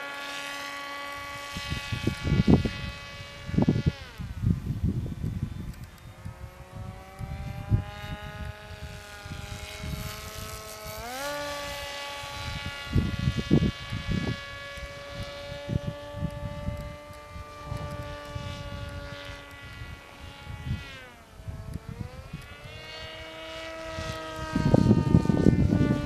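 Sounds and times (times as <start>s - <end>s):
model plane motor whining: 0.0s - 26.0s
wind rumbling on microphone: 0.0s - 26.0s.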